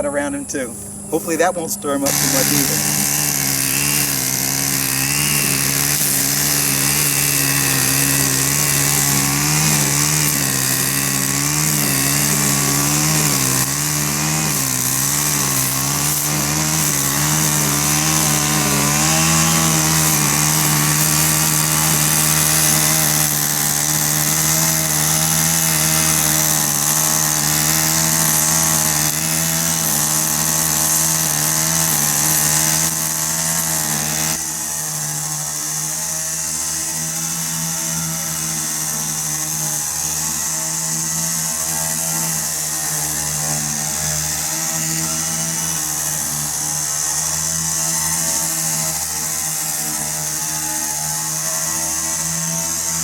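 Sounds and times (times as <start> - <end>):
string trimmer cutting grass: 0.0 - 53.0.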